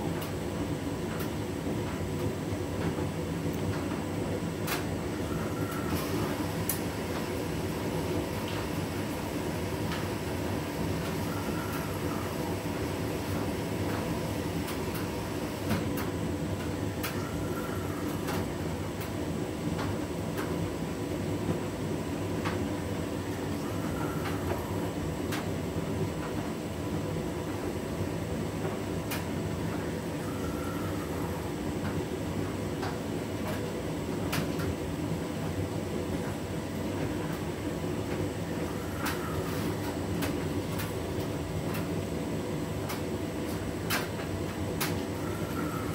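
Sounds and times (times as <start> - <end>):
washing machine drum whine: 0.0 - 45.9
washing machine motor running: 0.0 - 45.9.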